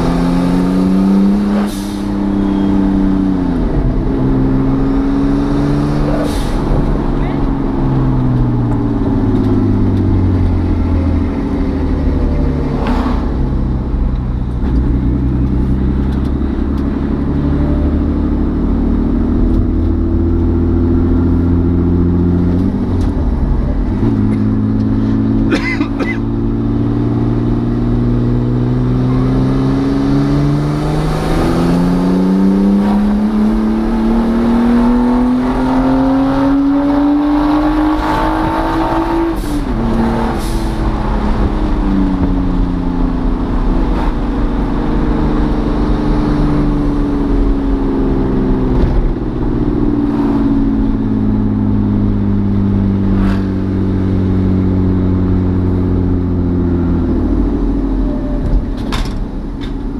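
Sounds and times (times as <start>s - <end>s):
truck engine accelerating: 0.0s - 59.9s.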